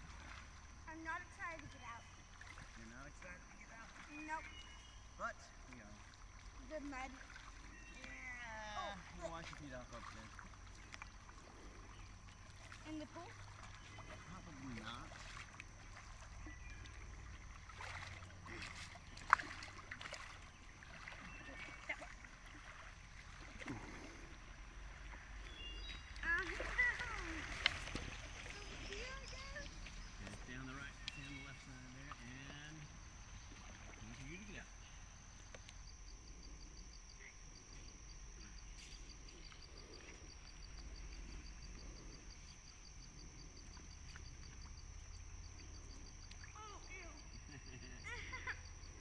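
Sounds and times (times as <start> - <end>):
paddles splashing in water: 0.0 - 36.0, 37.9 - 49.0
cricket chirping: 0.0 - 49.0
high insect drone: 0.0 - 49.0.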